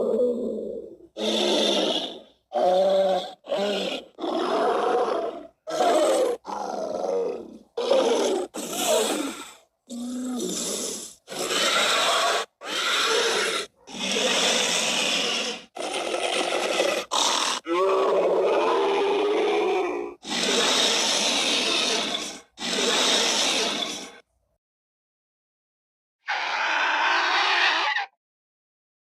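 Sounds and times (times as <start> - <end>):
dinosaur roars and grunts: 0.0 - 24.2, 26.3 - 28.2.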